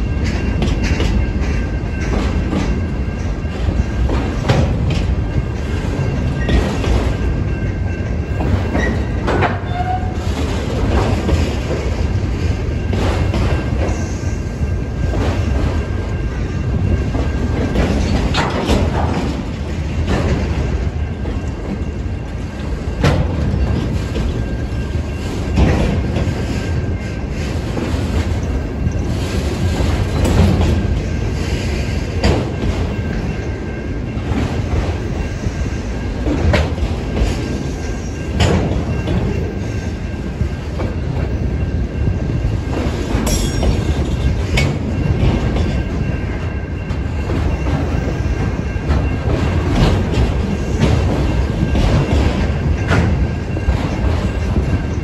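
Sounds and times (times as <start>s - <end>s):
rumble of steel wheels on rails: 0.0s - 55.0s.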